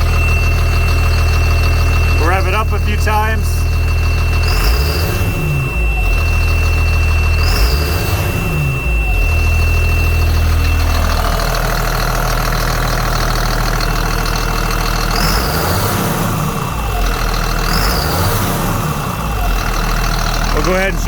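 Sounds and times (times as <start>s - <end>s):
diesel engine revving: 0.0s - 21.0s
turbo whistle: 0.0s - 21.0s.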